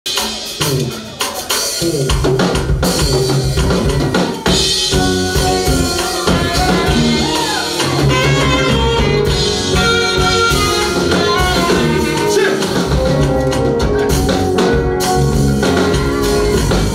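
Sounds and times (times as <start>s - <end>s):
drum kit playing: 0.0s - 16.9s
band instruments playing: 0.1s - 16.9s.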